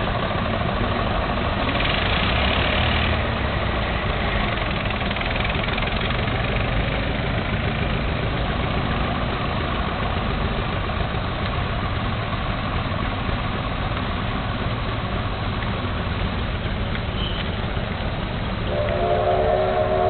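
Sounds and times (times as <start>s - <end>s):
vintage car engines passing: 0.0s - 20.0s.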